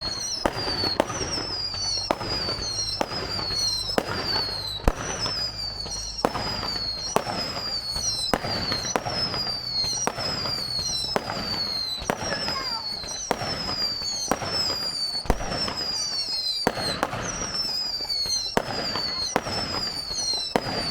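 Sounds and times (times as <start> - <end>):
falling fireworks whistle: 0.0 - 20.9
fireworks bangs: 0.0 - 20.9
fireworks crackling: 0.0 - 20.9.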